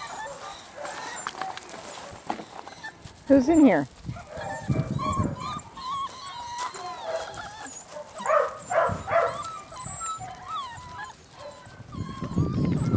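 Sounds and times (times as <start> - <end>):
puppies whimpering and squealing: 0.0 - 12.9
puppies yelping: 0.0 - 12.9.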